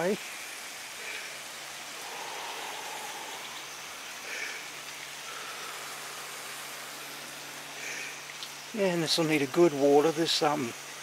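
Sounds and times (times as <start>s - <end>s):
faint steady hum: 0.0s - 11.0s
outdoor background hiss: 0.0s - 11.0s.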